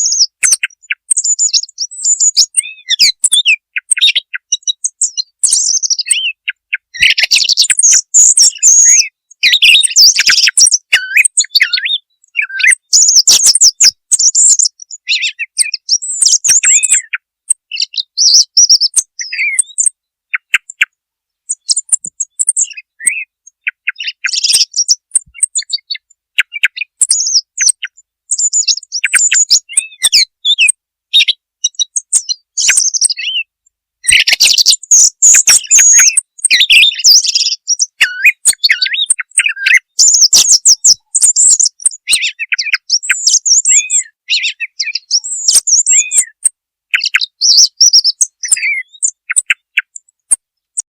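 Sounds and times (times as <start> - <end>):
song thrush singing: 0.0 - 50.9.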